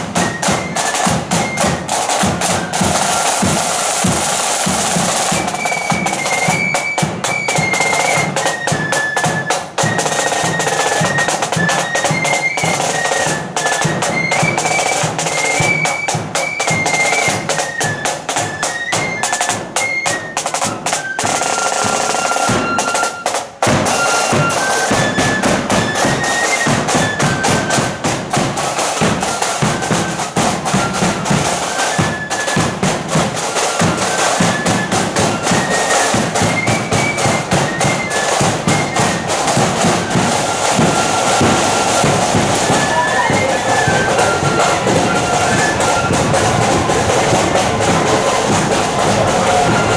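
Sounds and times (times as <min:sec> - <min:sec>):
fast snare drumming: 0:00.0 - 0:49.9
flutes playing a tune: 0:00.0 - 0:49.9.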